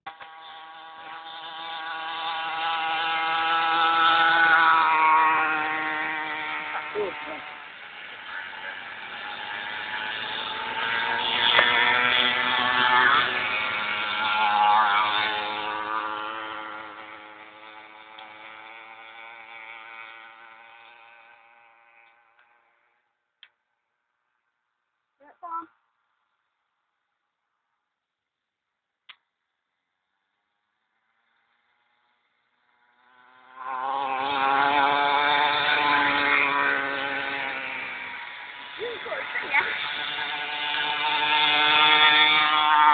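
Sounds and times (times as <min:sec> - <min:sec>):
small motorbike engine passing: 0:00.1 - 0:27.8, 0:29.2 - 0:42.9.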